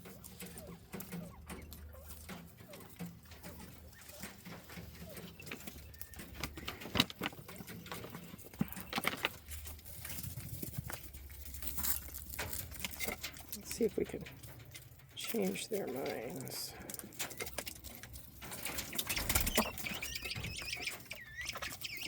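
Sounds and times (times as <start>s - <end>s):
quail pecking and scratching: 0.0s - 22.0s.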